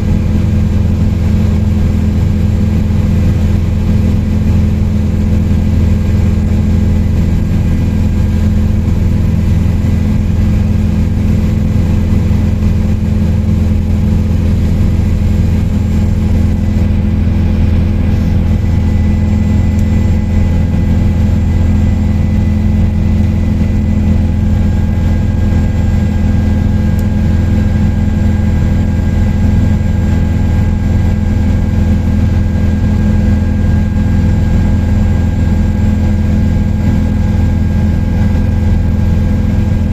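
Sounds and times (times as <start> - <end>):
helicopter drone: 0.0 - 39.9.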